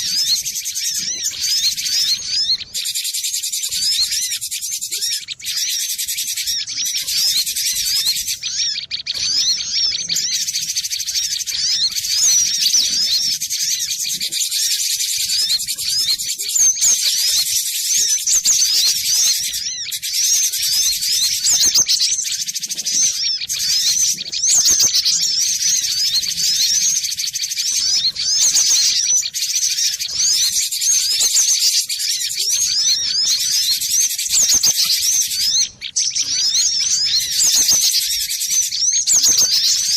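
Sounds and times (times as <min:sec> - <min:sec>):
bird singing high-pitched chirps: 0:00.0 - 0:39.9.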